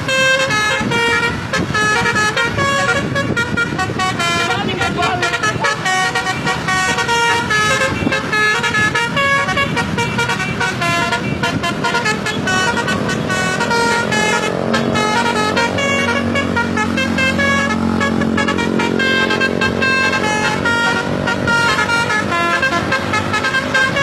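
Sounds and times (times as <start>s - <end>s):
bus engine running: 0.0s - 24.0s
musical air horn tune: 0.0s - 24.0s.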